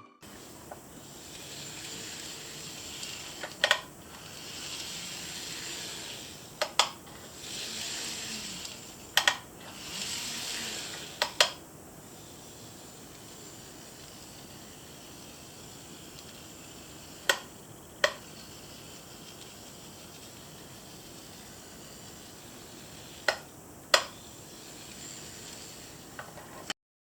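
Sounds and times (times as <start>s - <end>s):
model train rushing hiss: 0.2s - 26.4s.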